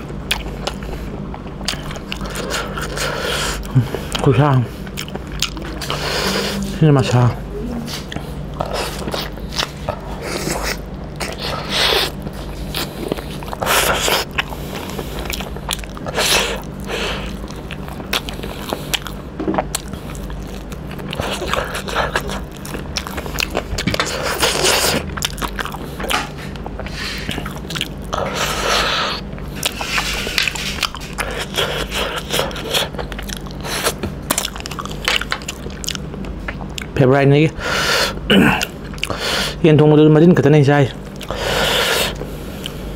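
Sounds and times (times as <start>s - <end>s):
person chewing food: 0.0s - 37.0s, 37.6s - 39.6s, 41.0s - 42.9s
steady low hum: 0.0s - 42.9s.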